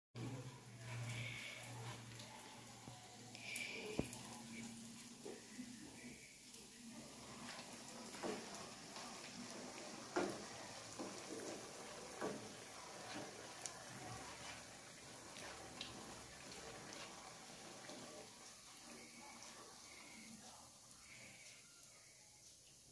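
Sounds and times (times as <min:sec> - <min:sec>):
batter sizzling in hot oil: 0:00.2 - 0:22.9.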